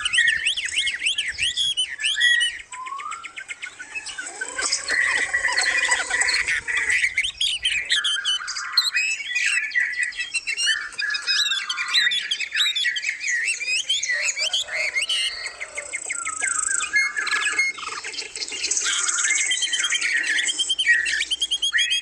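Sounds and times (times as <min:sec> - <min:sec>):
low descending bird call: 0:00.0 - 0:22.0
songbirds chirping: 0:00.0 - 0:22.0.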